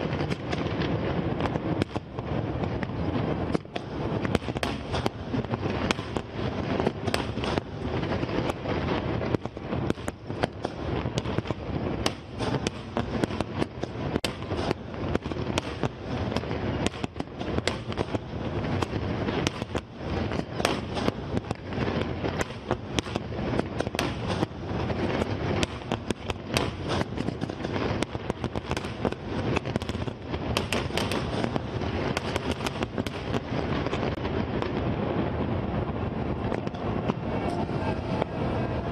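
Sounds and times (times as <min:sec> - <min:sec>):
firework shells bursting: 0:00.0 - 0:34.8
continuous rumble: 0:00.0 - 0:38.9.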